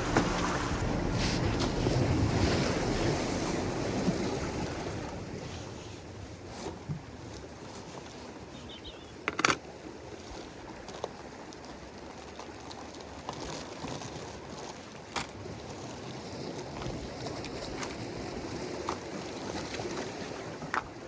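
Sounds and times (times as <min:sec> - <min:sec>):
sea: 0:00.0 - 0:21.0
wind: 0:00.0 - 0:21.0.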